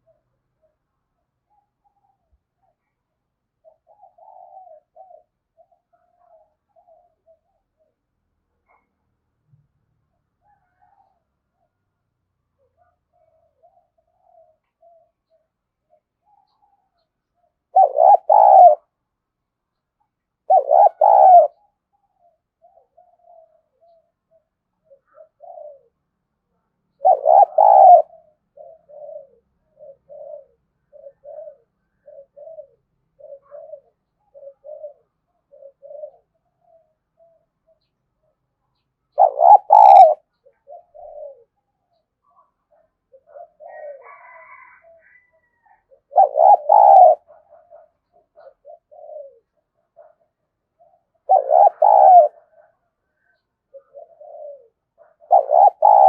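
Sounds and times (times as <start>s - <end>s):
dove cooing: 0.0s - 9.0s, 10.4s - 11.8s, 12.4s - 19.1s, 20.4s - 38.4s, 39.0s - 56.0s.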